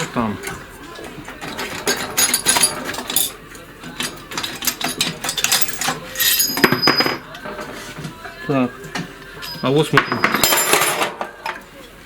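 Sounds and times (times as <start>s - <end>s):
metal engine parts clinking: 0.0s - 7.7s, 9.4s - 11.6s.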